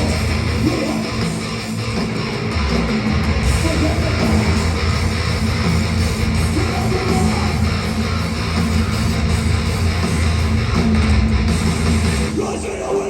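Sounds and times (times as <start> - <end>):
loud metal band playing: 0.0 - 13.0.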